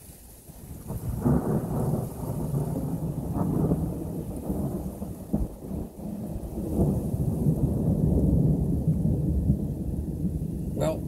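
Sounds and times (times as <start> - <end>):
light rain falling: 0.0 - 11.0
thunder rumbling: 0.6 - 11.0.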